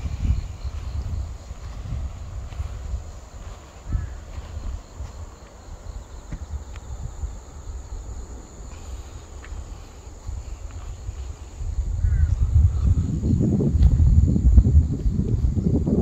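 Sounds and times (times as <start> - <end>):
high-pitched insect trill: 0.0 - 16.0
wind buffeting the microphone: 0.0 - 16.0.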